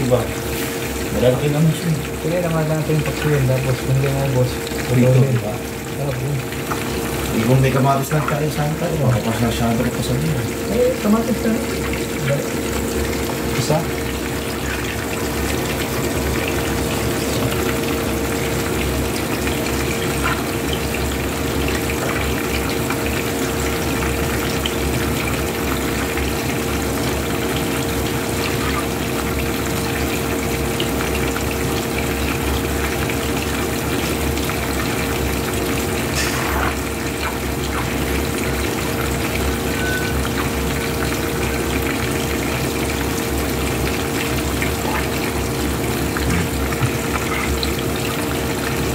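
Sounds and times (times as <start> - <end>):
fish frying in hot oil: 0.0 - 48.9.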